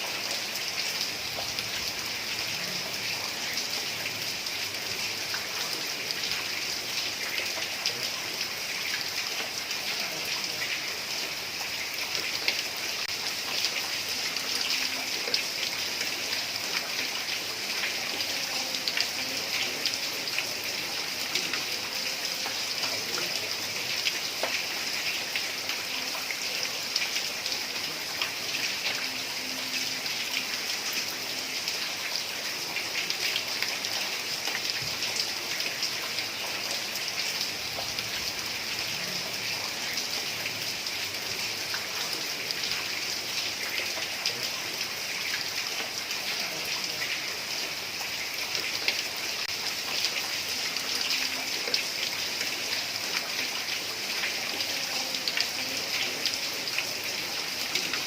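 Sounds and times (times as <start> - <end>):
heavy rain on a tiled roof: 0.0 - 58.0.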